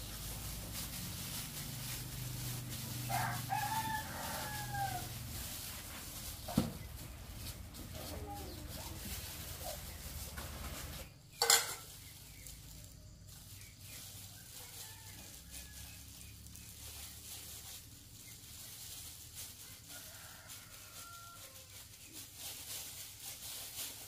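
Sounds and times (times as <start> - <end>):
plastic gloves and sheet crinkling: 0.0 - 24.0.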